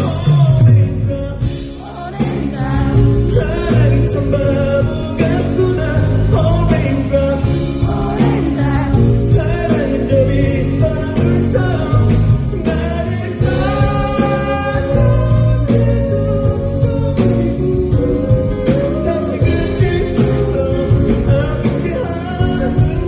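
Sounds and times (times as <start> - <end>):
live band playing: 0.0 - 23.0
person singing: 0.0 - 23.0.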